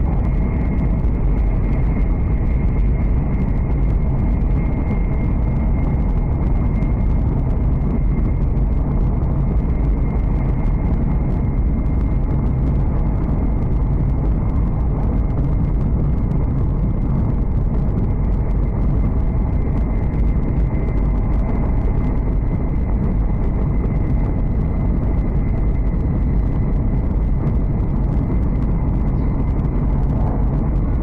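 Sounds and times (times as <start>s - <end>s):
faint thin whine: 0.0s - 31.0s
train cabin deep rumble: 0.0s - 31.0s.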